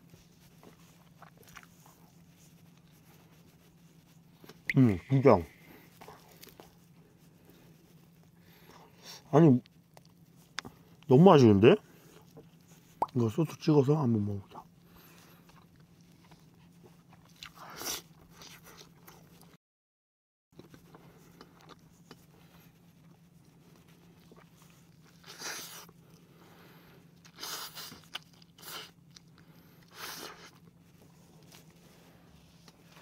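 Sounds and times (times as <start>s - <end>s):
crunchy chewing of fried chicken: 0.0s - 19.6s, 20.6s - 33.0s.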